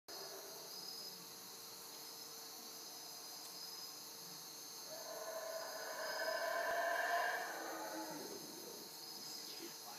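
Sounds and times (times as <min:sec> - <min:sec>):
crickets and insects trilling: 0:00.1 - 0:09.9.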